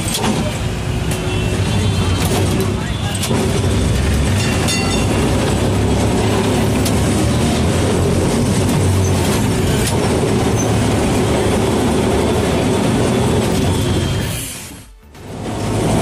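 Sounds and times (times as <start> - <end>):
steel wheels rumbling on rails: 0.0 - 16.0.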